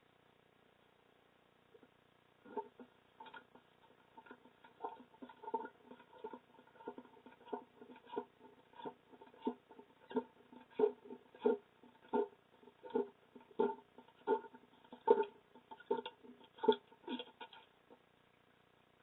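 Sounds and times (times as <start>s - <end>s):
small knocks: 2.5s - 17.7s.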